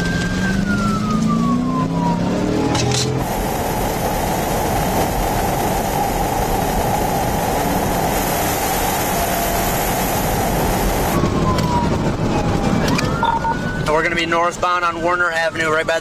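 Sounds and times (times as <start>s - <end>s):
loud rushing vehicle noise: 0.0s - 15.2s.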